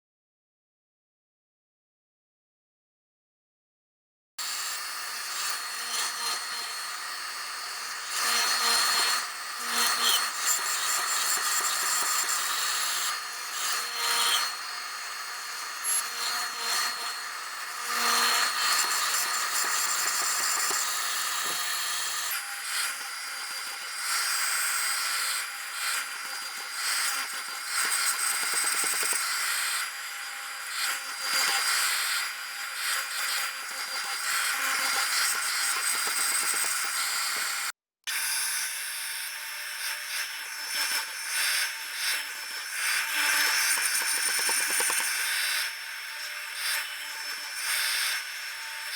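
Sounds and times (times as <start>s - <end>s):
wood cutting noise: 4.4s - 48.9s
woodworking machine whine: 4.4s - 48.9s.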